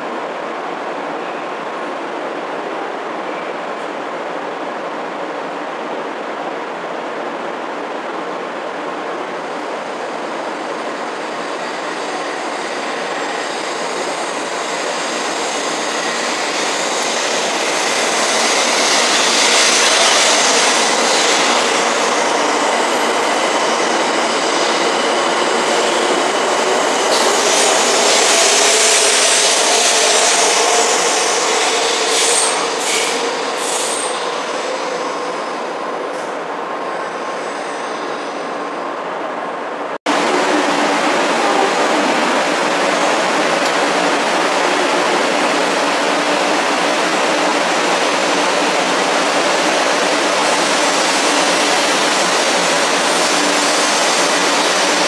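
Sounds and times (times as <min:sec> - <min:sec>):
train running noise: 0:00.0 - 0:55.0
train wheel and air rush: 0:02.1 - 0:55.0.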